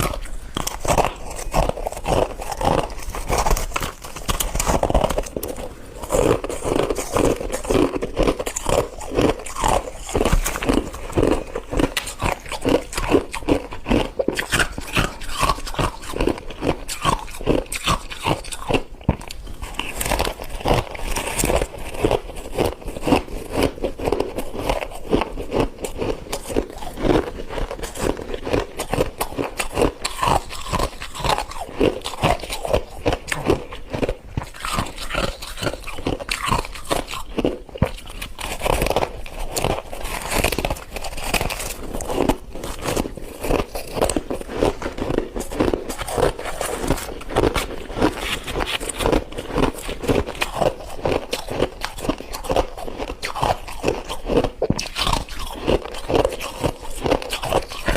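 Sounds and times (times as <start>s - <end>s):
person crunching frost: 0.0s - 57.9s.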